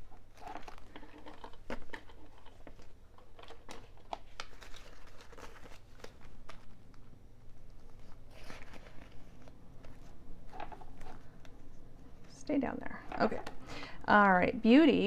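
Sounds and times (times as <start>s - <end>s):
banknotes and plastic pouch crinkling: 0.0s - 12.3s.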